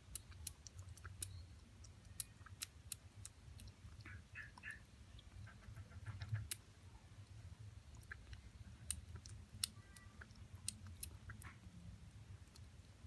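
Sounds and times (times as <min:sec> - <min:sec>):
kitten lapping milk: 0:00.0 - 0:13.0.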